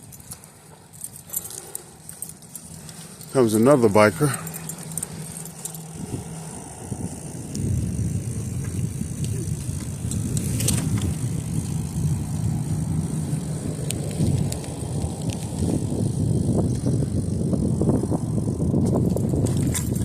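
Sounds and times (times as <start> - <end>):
bicycle tyres rumbling: 0.0 - 20.0.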